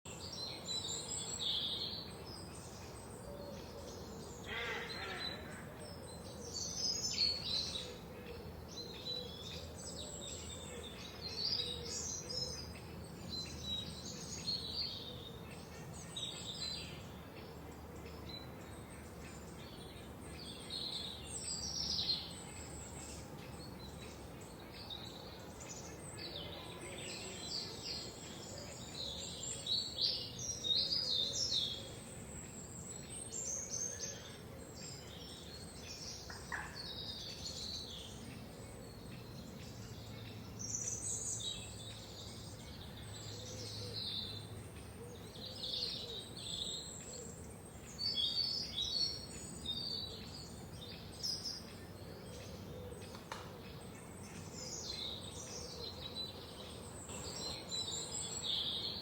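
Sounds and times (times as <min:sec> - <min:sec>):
faint steady background noise: 0:00.1 - 0:59.0
songbirds chirping and singing: 0:00.1 - 0:59.0.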